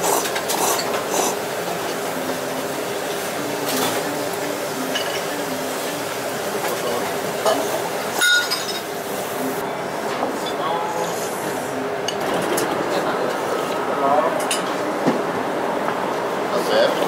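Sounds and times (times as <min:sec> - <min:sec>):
restaurant background noise: 0:00.0 - 0:17.0.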